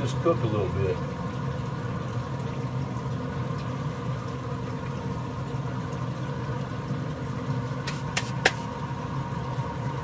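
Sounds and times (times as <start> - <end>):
smoker fan humming: 0.0 - 10.0.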